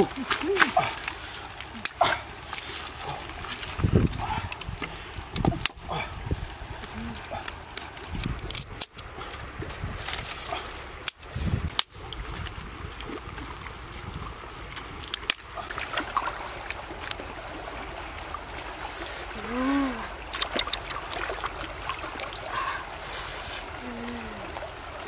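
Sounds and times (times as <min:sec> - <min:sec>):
river trickling over stones: 0:00.0 - 0:25.0.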